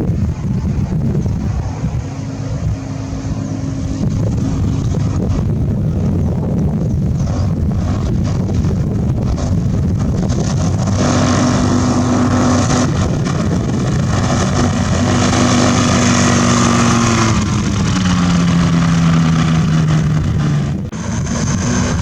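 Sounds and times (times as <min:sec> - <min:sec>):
two-stroke engine running: 0:01.2 - 0:22.0.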